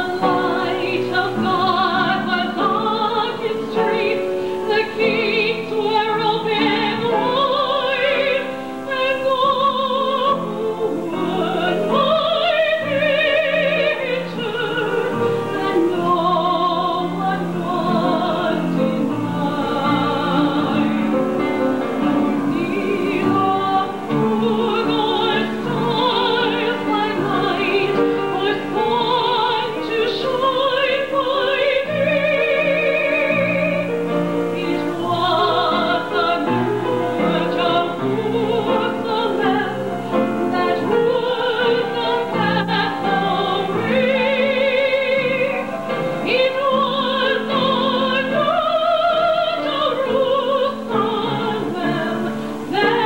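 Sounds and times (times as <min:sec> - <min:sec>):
woman singing with vibrato: 0:00.0 - 0:53.0.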